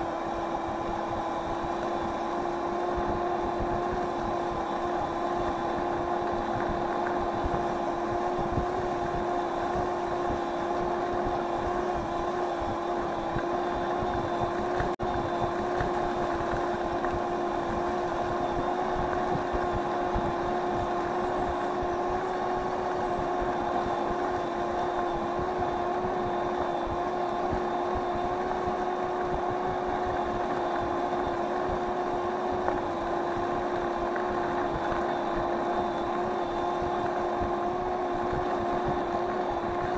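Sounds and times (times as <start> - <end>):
electric scooter motor whining: 0.0 - 39.9.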